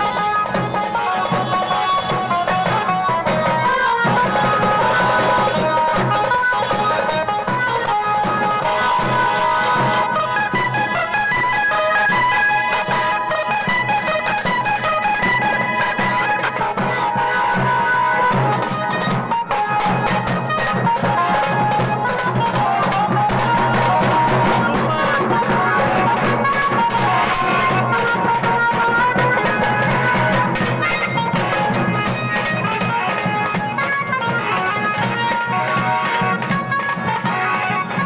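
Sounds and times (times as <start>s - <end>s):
loud music from horn loudspeakers: 0.0s - 38.0s.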